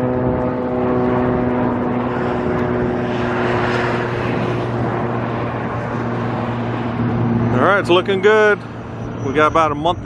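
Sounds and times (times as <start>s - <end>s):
aircraft passing over: 0.0s - 10.0s
low engine hum: 0.0s - 10.0s.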